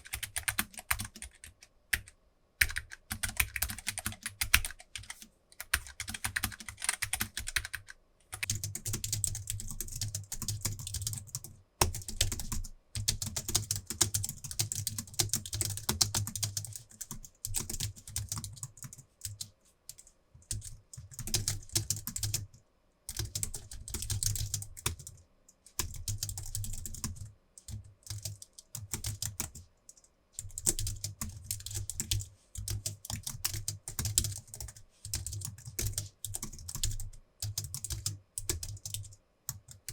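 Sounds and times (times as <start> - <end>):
keyboard typing: 0.0 - 22.5, 23.1 - 25.2, 25.8 - 39.9.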